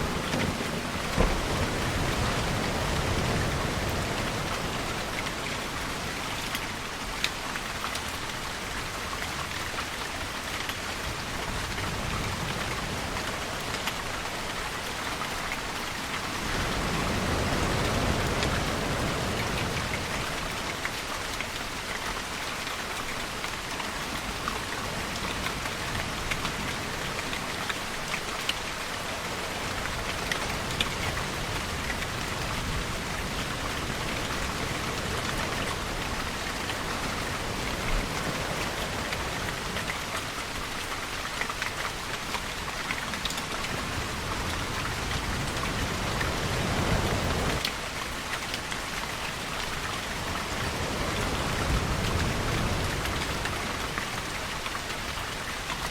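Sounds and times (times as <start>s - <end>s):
steady rainfall: 0.0s - 55.9s.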